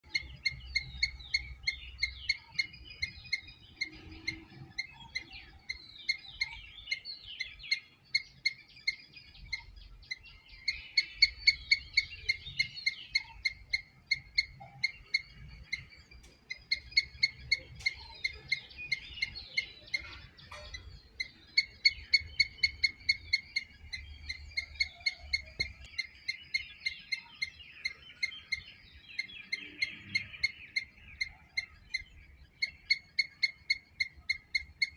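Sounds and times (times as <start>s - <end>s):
faint twittering: 0.0s - 34.9s
squirrel chirping: 0.0s - 34.9s.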